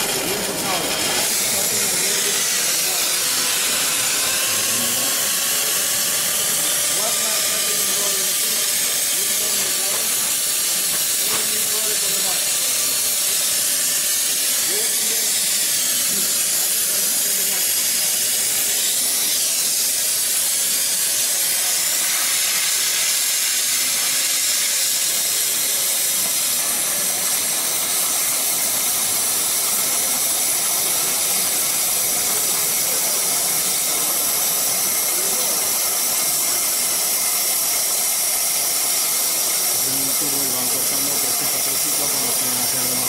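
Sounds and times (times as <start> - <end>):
plasma torch hissing: 0.0 - 43.0.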